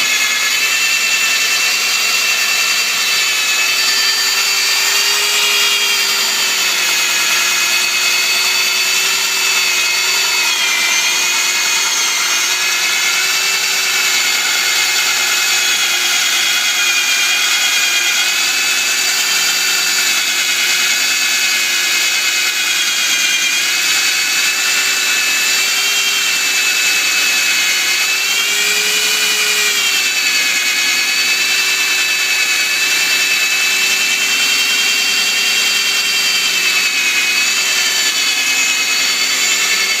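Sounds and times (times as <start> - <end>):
metal drilling machine whine: 0.0 - 40.0.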